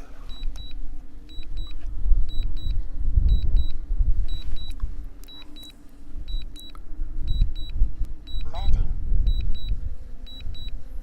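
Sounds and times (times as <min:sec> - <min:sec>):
wind buffeting microphone: 0:00.0 - 0:11.0
high warning beeps: 0:00.3 - 0:06.7, 0:07.3 - 0:08.7, 0:09.3 - 0:10.8.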